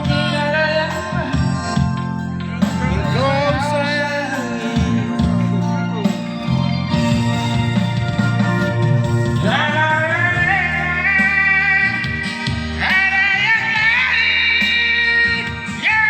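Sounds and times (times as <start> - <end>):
man singing: 0.0 - 6.2, 9.3 - 16.0
instrumental backing: 0.0 - 16.0.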